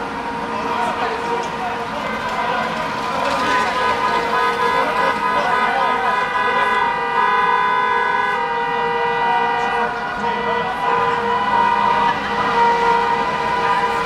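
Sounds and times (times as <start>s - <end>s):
car horns blaring: 0.0s - 14.0s.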